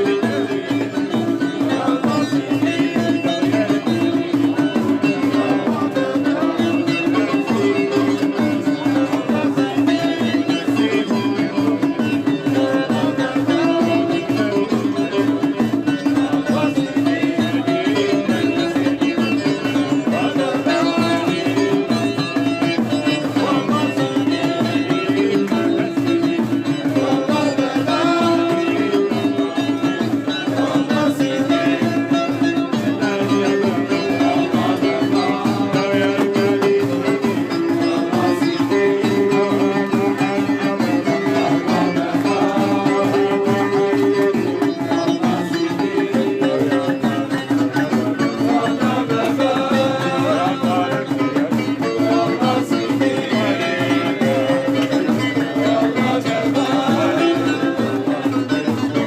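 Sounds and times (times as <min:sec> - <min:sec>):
hand drum beat: 0:00.0 - 0:59.0.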